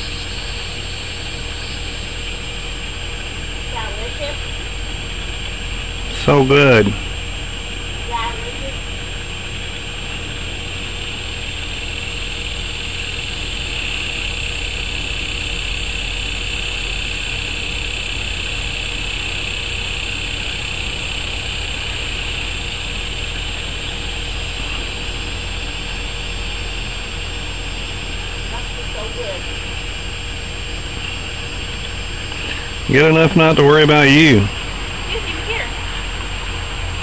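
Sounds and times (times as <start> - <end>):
continuous high hiss: 0.0 - 37.0.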